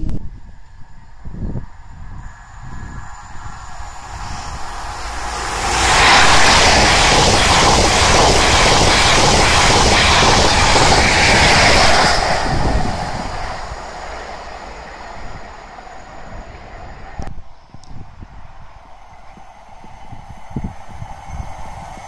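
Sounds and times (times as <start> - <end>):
express train passing at speed: 0.0 - 22.0.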